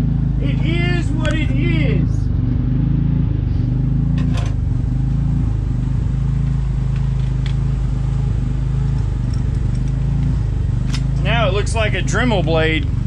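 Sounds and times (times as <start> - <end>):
machine pulsing hum: 0.0 - 13.0.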